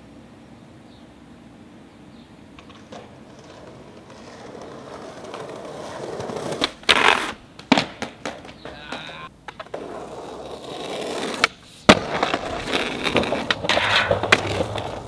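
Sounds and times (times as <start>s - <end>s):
skateboard wheels rolling on concrete: 0.0s - 15.0s
skateboard grinding on concrete ledge: 2.6s - 15.0s.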